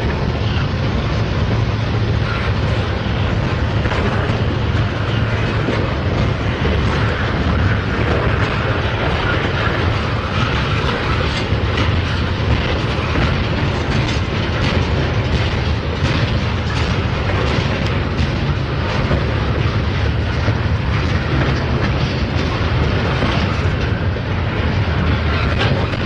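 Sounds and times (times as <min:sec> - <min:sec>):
freight train rumbling past: 0:00.0 - 0:26.0
wheels clicking over rail joints: 0:00.0 - 0:26.0.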